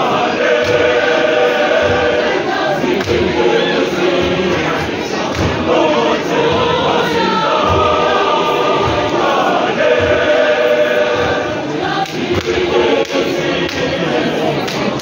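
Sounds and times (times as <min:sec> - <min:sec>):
choir singing sustained notes: 0:00.0 - 0:15.0.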